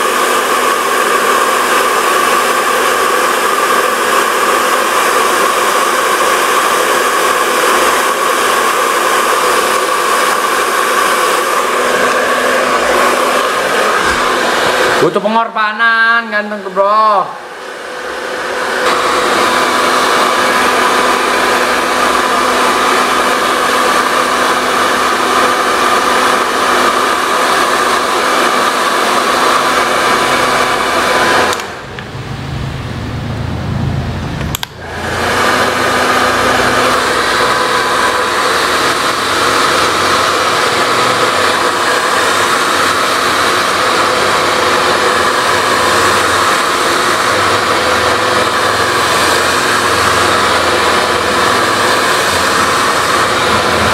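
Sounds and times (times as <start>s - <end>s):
hair dryer blowing: 0.0s - 53.9s.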